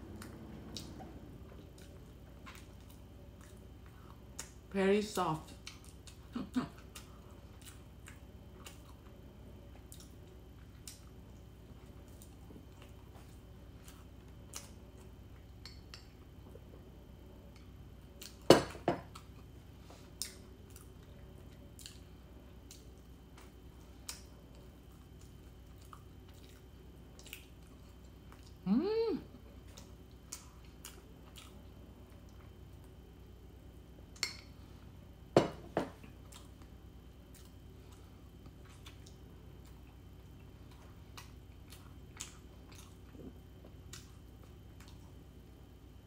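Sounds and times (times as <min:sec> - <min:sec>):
low steady hum: 0:00.0 - 0:46.0
soft chewing with clicks: 0:00.1 - 0:04.7, 0:05.5 - 0:28.6, 0:29.4 - 0:35.0, 0:35.9 - 0:46.0.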